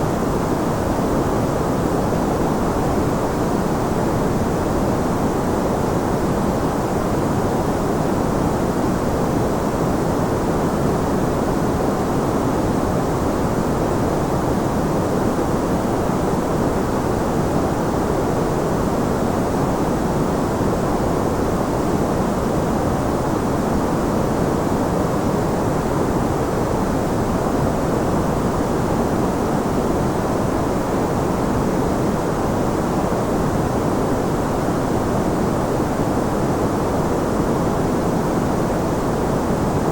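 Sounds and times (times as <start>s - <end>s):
low rushing white noise: 0.0s - 39.9s.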